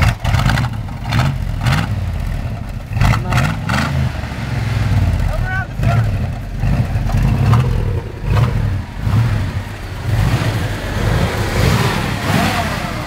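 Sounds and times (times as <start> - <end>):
engine revving in blips: 0.0 - 13.0.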